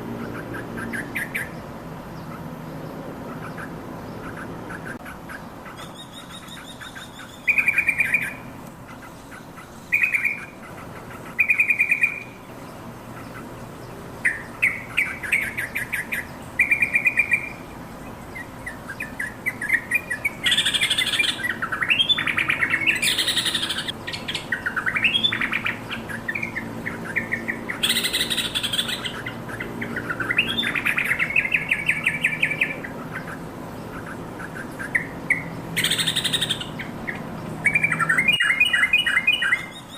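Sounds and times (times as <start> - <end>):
bulbul calling and singing: 0.0 - 39.9.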